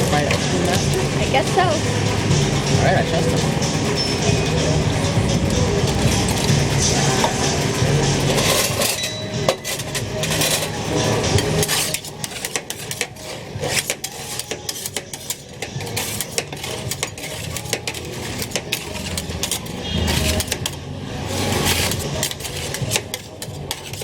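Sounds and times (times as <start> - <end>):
metal spatulas scraping steel plate: 0.0 - 24.0.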